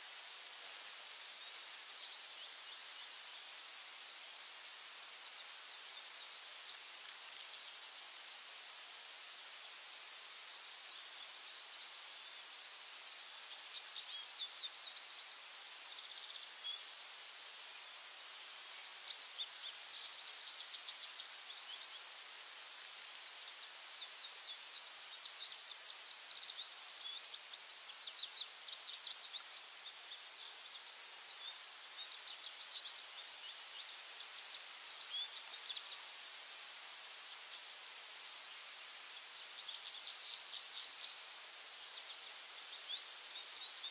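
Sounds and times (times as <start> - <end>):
steady high-pitched hiss: 0.0 - 43.9.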